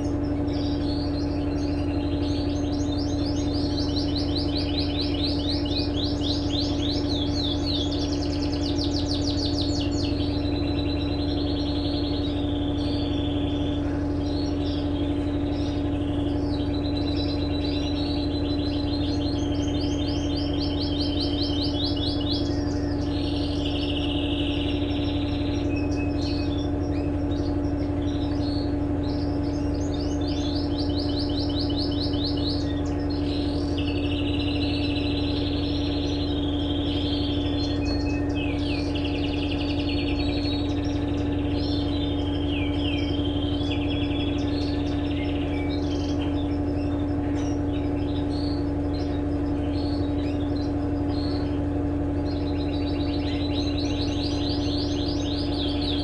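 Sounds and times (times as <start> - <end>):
bird chirping and trilling: 0.0 - 56.0
washing machine humming: 0.0 - 56.0.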